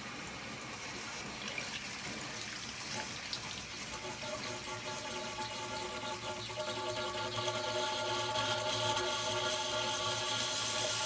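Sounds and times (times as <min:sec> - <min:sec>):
water running into a bucket: 0:00.0 - 0:11.0.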